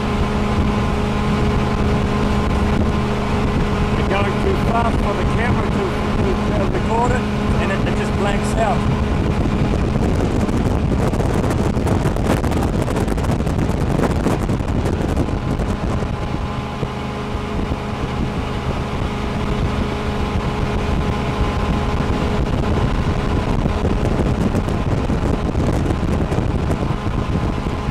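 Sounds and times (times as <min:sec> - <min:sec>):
boat engine running: 0:00.0 - 0:27.9
wind buffeting microphone: 0:00.0 - 0:27.9.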